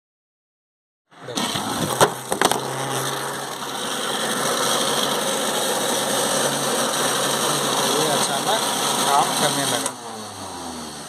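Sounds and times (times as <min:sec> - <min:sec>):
mixer grinder motor whirring: 0:01.3 - 0:11.0.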